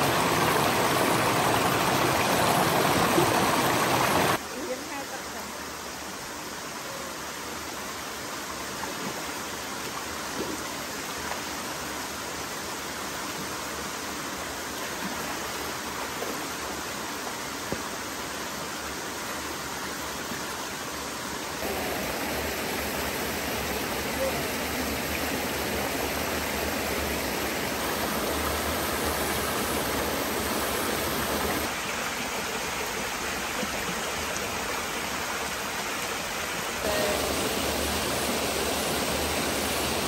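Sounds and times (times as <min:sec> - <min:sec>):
river water flowing over rocks: 0:00.0 - 0:40.0.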